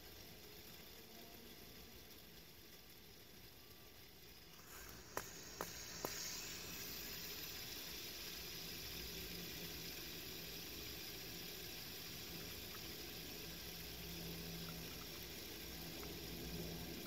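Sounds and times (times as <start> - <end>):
fidget spinner clicks: 0.0 - 17.0
fidget spinner whirring: 0.0 - 17.0.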